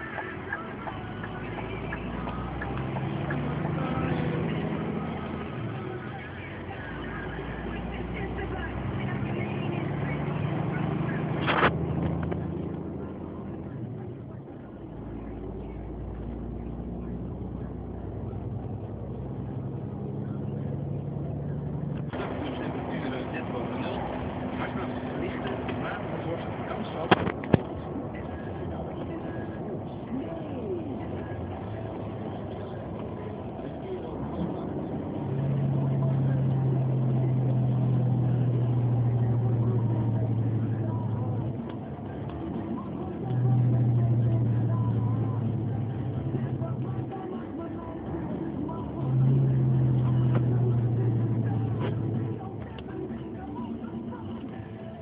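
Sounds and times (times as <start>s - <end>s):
engine droning: 0.0s - 55.0s
road noise: 0.0s - 55.0s.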